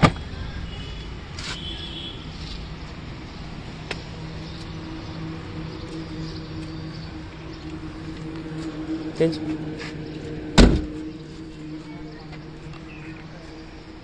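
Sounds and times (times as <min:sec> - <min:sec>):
low vehicle rumble: 0:02.0 - 0:14.0
faint hum: 0:02.7 - 0:14.0.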